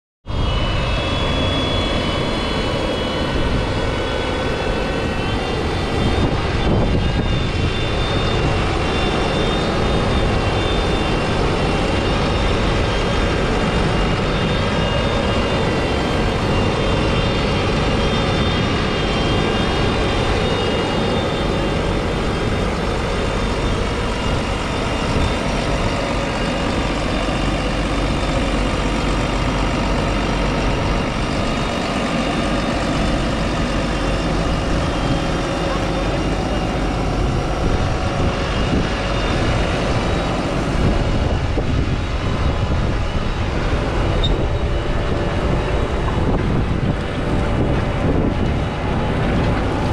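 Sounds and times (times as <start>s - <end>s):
steady high whine: 0.2s - 49.9s.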